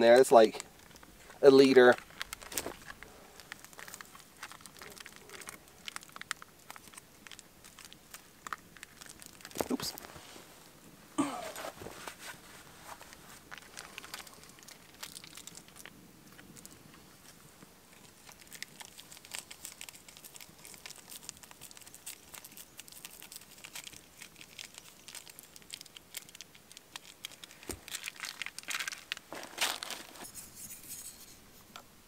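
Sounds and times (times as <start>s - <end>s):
coffee packet crinkling: 0.0s - 10.2s, 11.4s - 31.0s.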